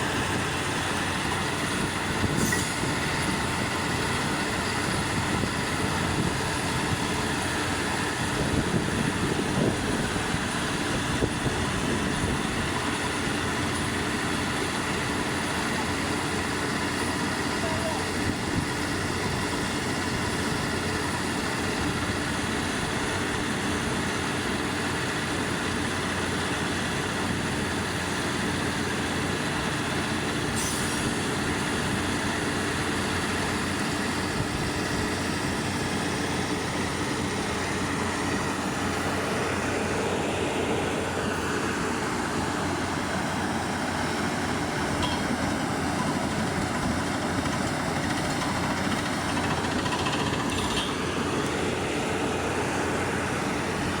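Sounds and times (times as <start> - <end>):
constant machine hum: 0.0 - 54.0
drilling rig machine noise: 0.0 - 54.0.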